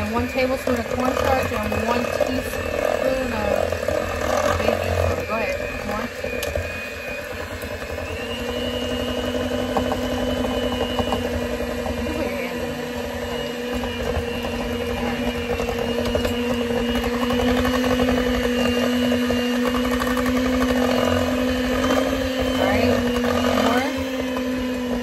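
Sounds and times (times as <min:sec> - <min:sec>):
electric hand mixer running: 0:00.0 - 0:25.0.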